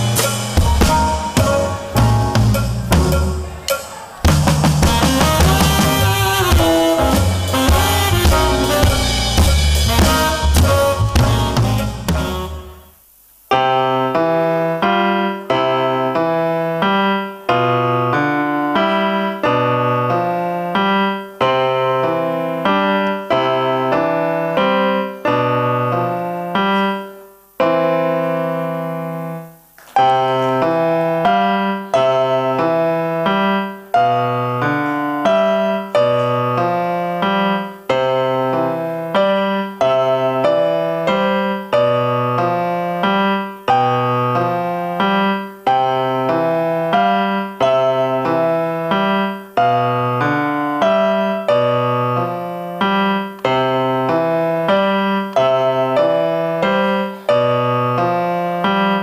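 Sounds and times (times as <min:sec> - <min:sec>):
digital piano chords: 0:00.0 - 0:59.0.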